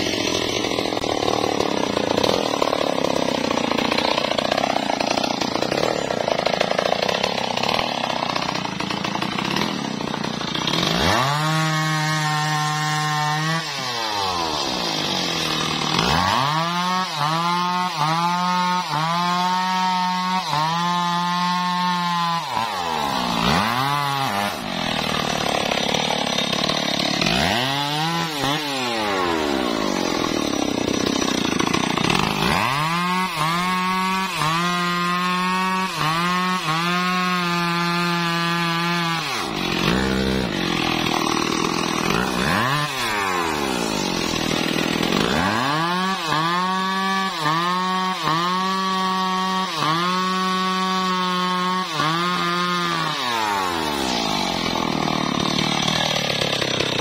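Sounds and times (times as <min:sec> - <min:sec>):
chainsaw cutting into log: 0:00.0 - 0:57.0
chainsaw revving: 0:00.0 - 0:57.0.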